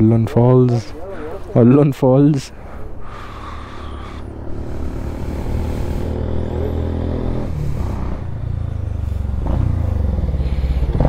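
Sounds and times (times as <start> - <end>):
motorcycle engines idling: 0.0 - 6.7, 7.6 - 11.0.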